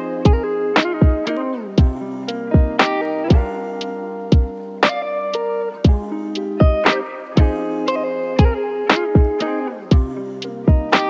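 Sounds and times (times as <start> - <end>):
plucked guitar notes: 0.0 - 11.0
drum beat with deep kick: 0.3 - 5.0, 5.8 - 11.0.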